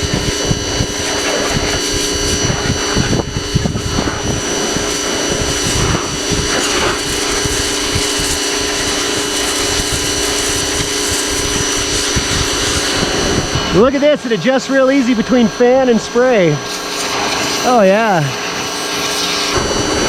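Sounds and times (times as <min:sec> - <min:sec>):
pressure washer motor whine: 0:00.0 - 0:20.0
water spraying: 0:00.0 - 0:20.0.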